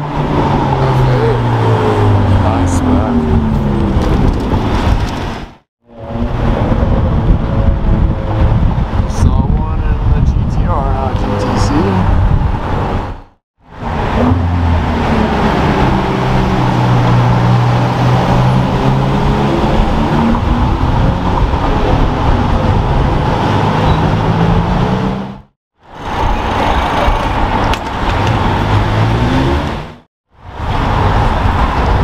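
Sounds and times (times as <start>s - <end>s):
car engines droning: 0.0s - 32.0s
traffic noise: 0.0s - 32.0s.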